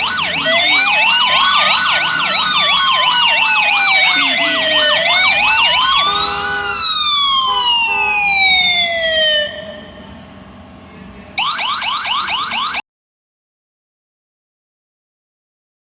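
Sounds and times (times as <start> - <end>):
emergency vehicle siren: 0.0 - 12.8.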